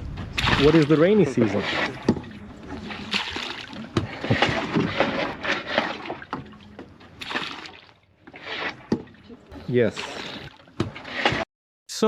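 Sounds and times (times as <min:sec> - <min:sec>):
water splashing around boat: 0:00.0 - 0:11.5.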